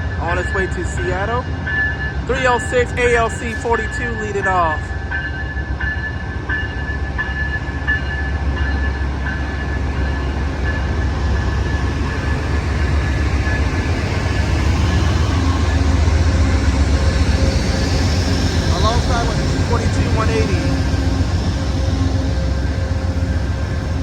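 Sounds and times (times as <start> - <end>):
locomotive engine rumble: 0.0 - 24.0
rail noise: 0.0 - 24.0.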